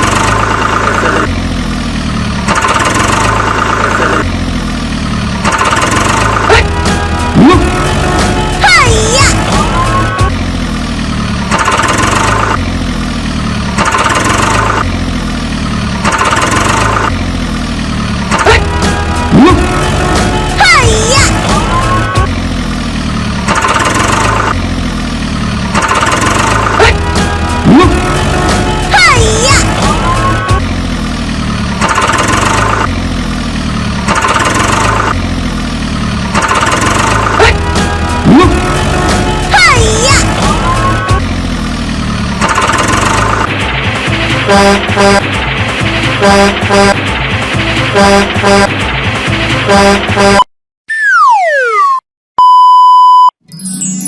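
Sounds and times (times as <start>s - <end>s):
low truck engine rumble: 0.0s - 50.3s.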